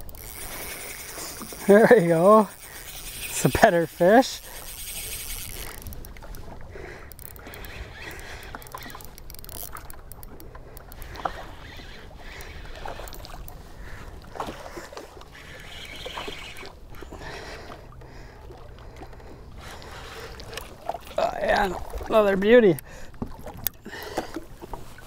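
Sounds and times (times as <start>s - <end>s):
water lapping against boat hull: 0.0s - 25.0s.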